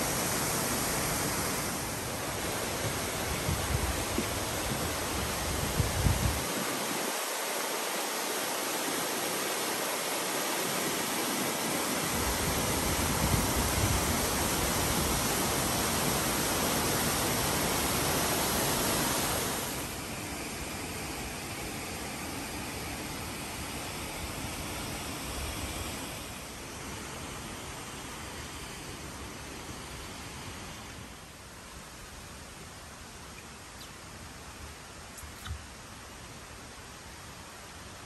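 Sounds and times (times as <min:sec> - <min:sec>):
waterfall rushing hiss: 0:00.0 - 0:33.3.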